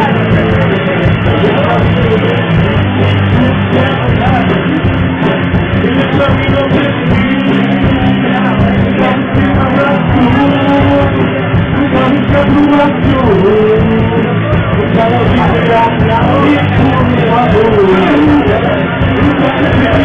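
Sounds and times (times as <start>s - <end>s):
drums steady beat: 0.0s - 20.0s
electric guitar: 0.0s - 20.0s
rock band playing loudly: 0.0s - 20.0s.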